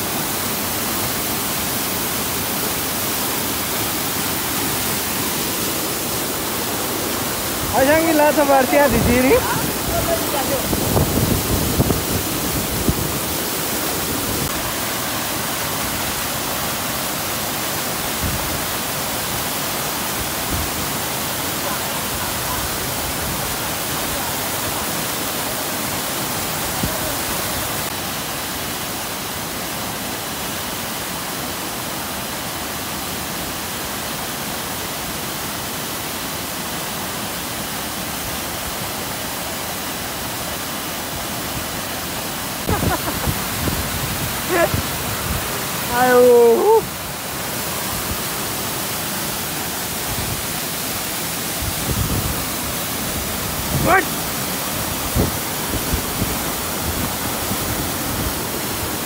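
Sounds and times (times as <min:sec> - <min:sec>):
mountain stream rushing: 0:00.0 - 0:59.0.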